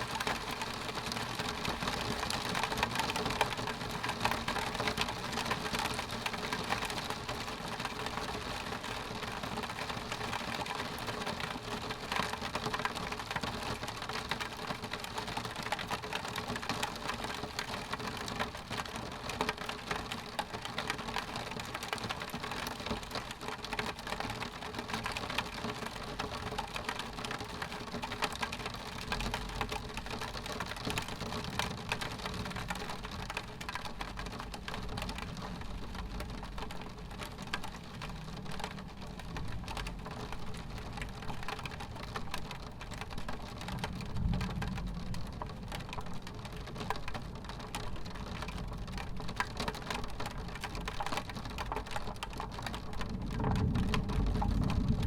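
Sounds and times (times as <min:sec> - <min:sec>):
rain pattering on window glass: 0:00.0 - 0:55.0.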